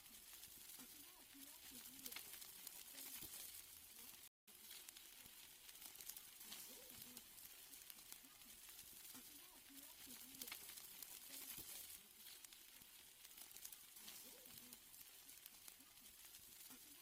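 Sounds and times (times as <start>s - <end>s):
fat crackling and popping: 0.0s - 17.0s
steaks sizzling on a grill: 0.0s - 17.0s.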